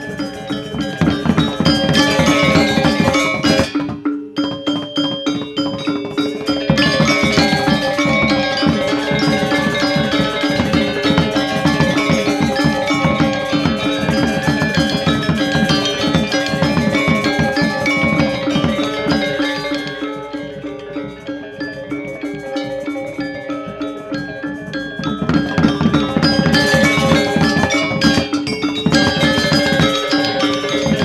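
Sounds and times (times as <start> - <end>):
drums: 0.0 - 31.0
metallophones struck quickly: 0.0 - 31.0
ringing gong tones: 0.0 - 31.0.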